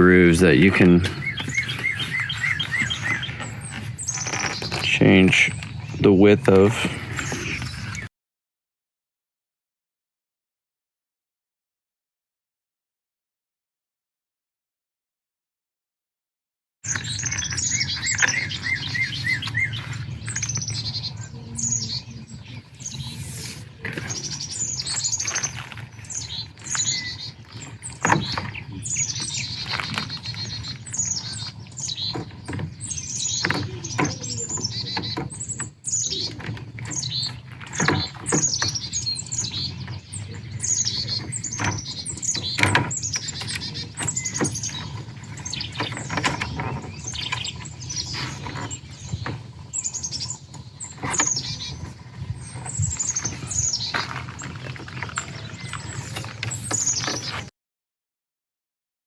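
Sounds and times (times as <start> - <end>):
small birds chirping: 0.0 - 8.1, 16.8 - 57.5.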